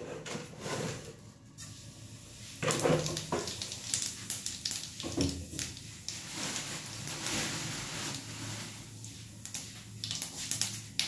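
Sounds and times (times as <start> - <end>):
seeds sizzling in hot oil: 1.8 - 11.0.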